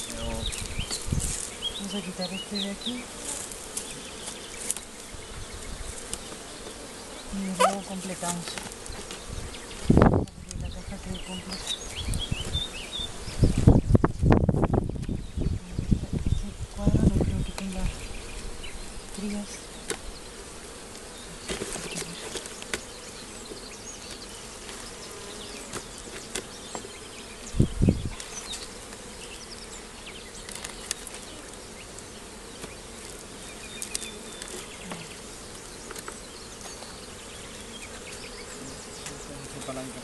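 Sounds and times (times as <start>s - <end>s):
honeybees buzzing: 0.0s - 40.0s.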